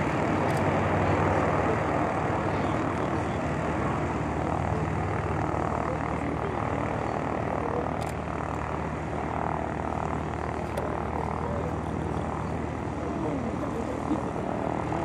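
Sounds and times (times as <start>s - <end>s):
turboprop engines in flight: 0.0s - 15.0s.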